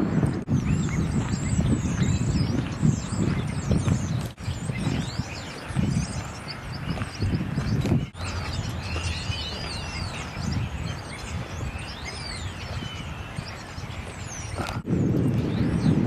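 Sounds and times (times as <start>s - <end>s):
birds chirping and whistling: 0.0s - 16.0s.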